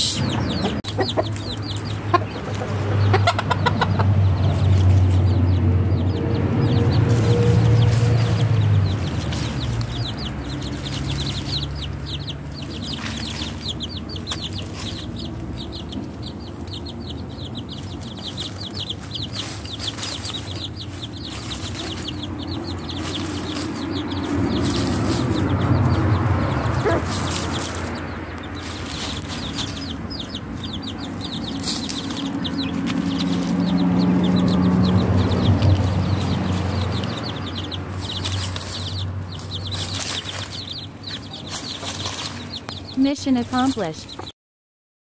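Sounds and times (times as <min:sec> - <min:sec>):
chicks peeping: 0:00.0 - 0:44.3
hen clucking: 0:00.0 - 0:44.3.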